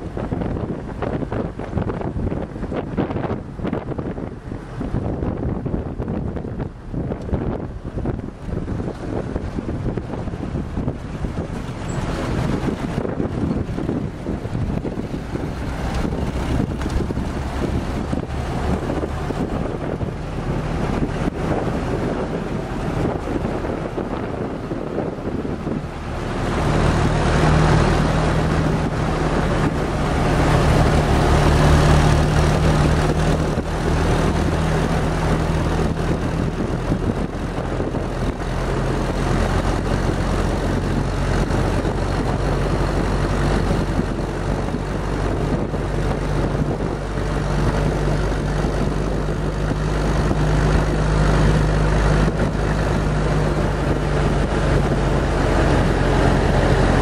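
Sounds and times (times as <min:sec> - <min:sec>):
car engine running: 0:00.0 - 0:57.0
wind and road noise: 0:00.0 - 0:57.0.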